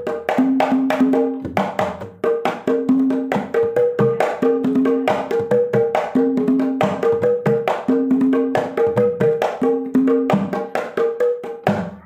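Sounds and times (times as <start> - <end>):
hand drum fast rhythm: 0.0 - 12.0.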